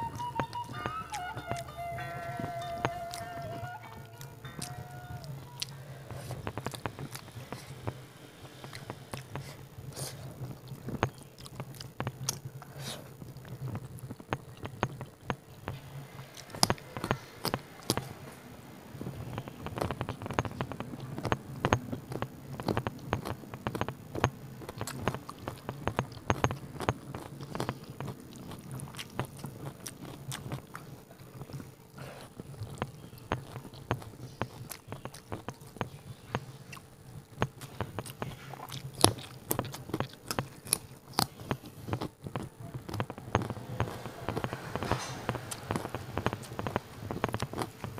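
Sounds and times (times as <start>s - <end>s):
mouth clicks: 0.0s - 18.4s, 19.0s - 47.9s
person chewing food: 0.0s - 47.9s.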